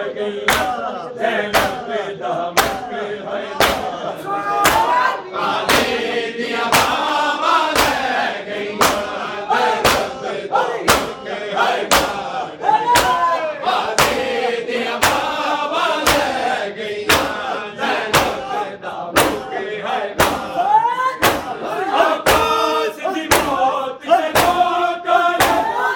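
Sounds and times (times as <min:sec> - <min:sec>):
crowd chanting: 0:00.0 - 0:25.9
men beating their chests: 0:00.4 - 0:25.9.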